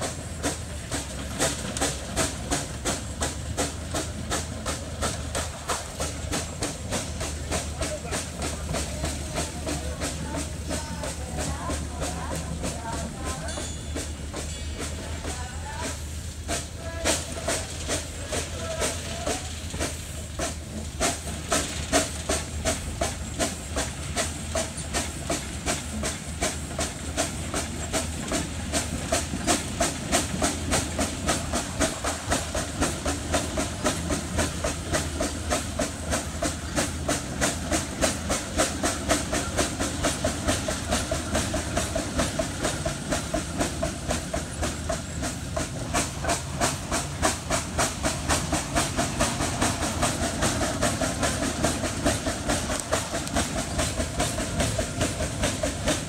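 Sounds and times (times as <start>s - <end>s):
hiss and hum of steam: 0.0s - 56.0s
steam engine exhaust chuffing: 0.0s - 56.0s.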